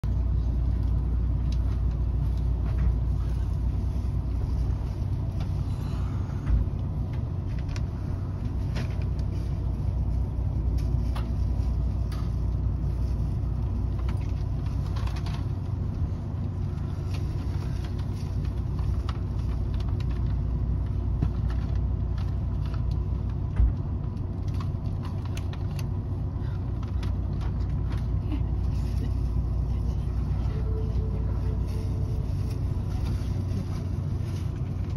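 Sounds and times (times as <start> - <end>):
train equipment humming: 0.0 - 34.9.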